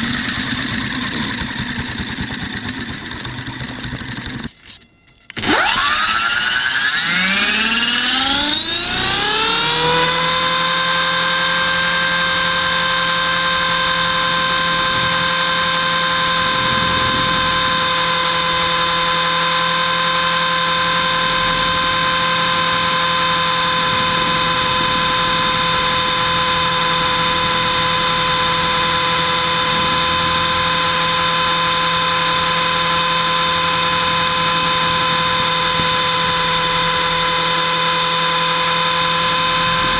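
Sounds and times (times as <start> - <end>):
helicopter motor and rotor whine: 0.0 - 39.9.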